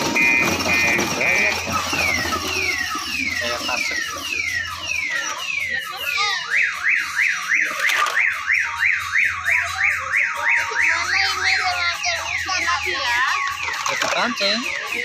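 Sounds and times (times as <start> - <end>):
electronic siren warbling: 0.0 - 15.0.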